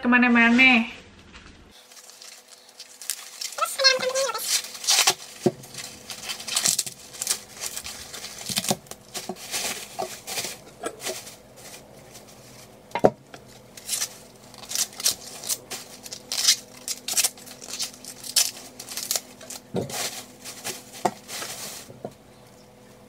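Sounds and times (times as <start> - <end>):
plastic bag crinkling: 1.2 - 22.2
corn husks rustling and tearing: 1.2 - 22.4.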